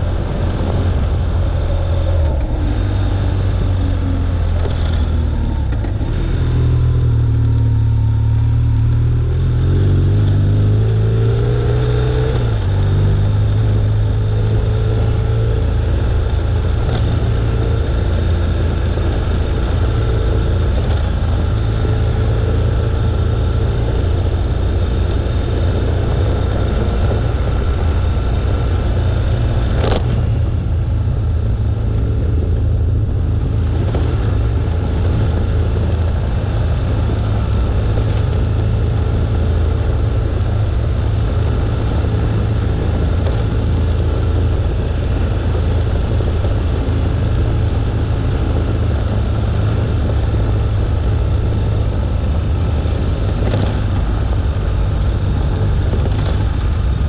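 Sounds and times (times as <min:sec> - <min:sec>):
motorcycle engine: 0:00.0 - 0:57.0
wind and tyre noise: 0:00.0 - 0:57.0.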